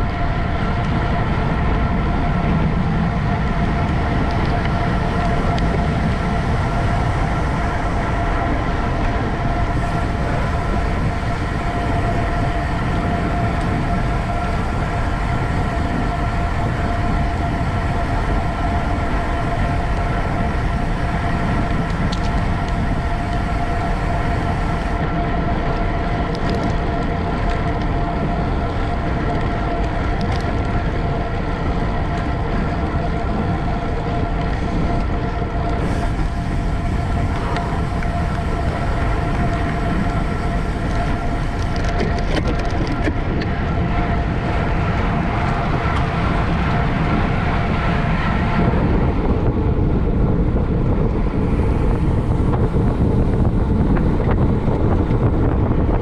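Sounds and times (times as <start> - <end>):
bicycle tyre and drivetrain hum: 0.0 - 56.0
wind rush on microphone: 0.0 - 56.0.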